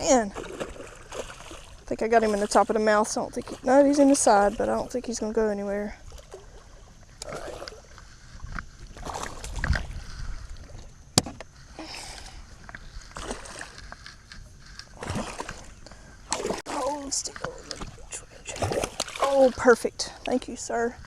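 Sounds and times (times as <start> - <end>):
water splashing against boat: 0.0 - 21.0.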